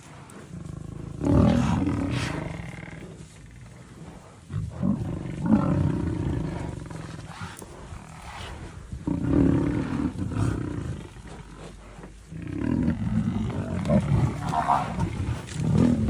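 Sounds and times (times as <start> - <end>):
big cat roaring: 0.5 - 16.0.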